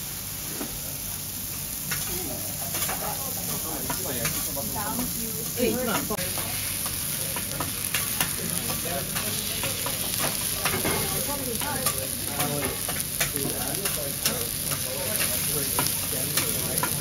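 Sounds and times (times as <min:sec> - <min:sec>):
steak sizzling on a griddle: 0:00.0 - 0:17.0.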